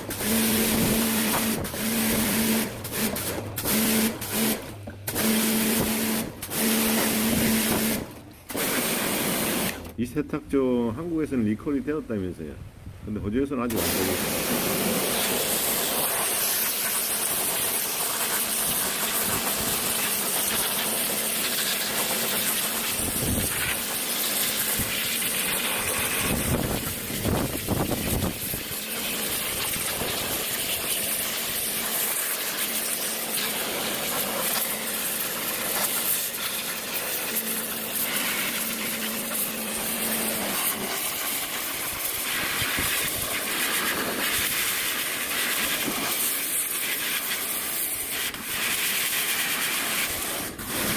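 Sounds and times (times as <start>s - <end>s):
water spray hissing: 0.0s - 9.9s, 13.7s - 50.9s.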